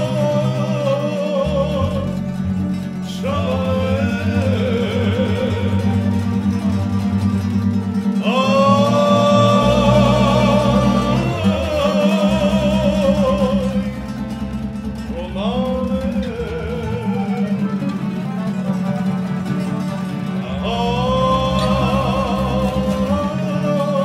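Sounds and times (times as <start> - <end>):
man singing with vibrato: 0.0 - 18.6, 20.0 - 24.0
accordion: 0.0 - 24.0
plucked string instrument: 0.0 - 24.0.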